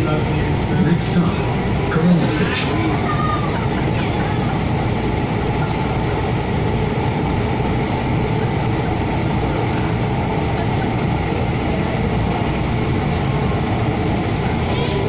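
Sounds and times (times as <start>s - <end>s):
light rail car running: 0.0s - 15.0s.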